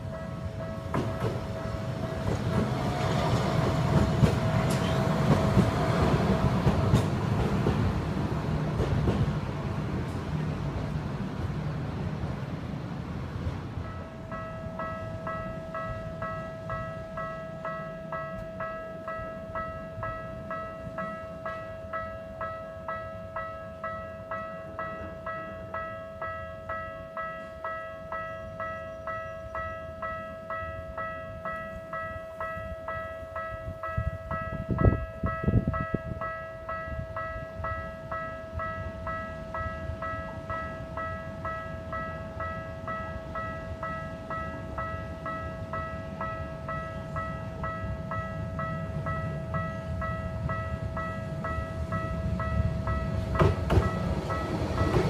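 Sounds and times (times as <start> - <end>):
railroad crossing bell ringing: 0.0 - 9.3, 13.4 - 55.0.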